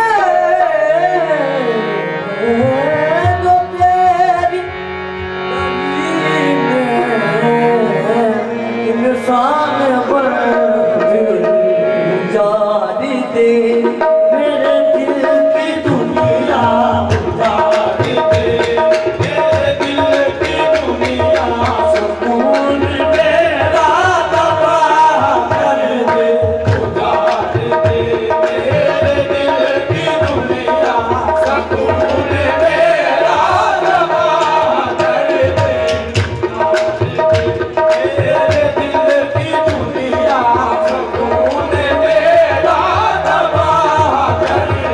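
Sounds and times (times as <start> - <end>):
harmonium melody over drone: 0.0 - 44.9
tabla drumming: 2.5 - 7.0, 9.0 - 44.9.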